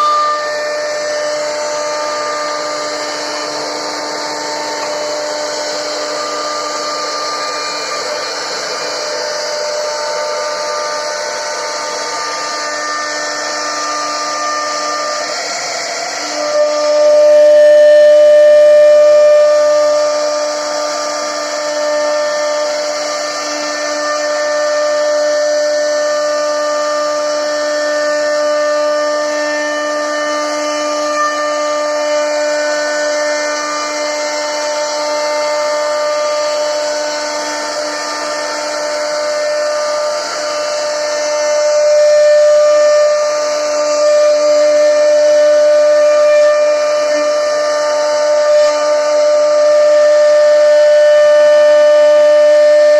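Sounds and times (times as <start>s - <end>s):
router spindle high-pitched whine: 0.0s - 52.9s.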